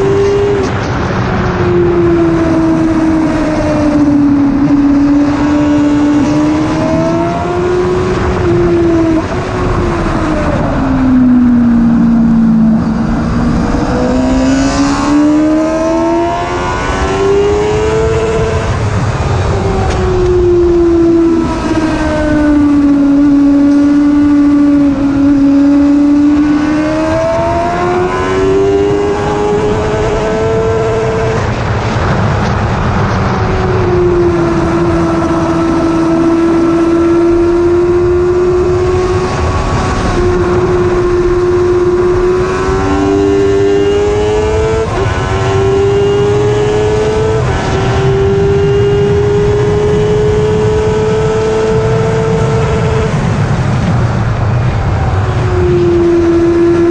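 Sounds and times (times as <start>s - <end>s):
wind noise: 0.0s - 56.9s.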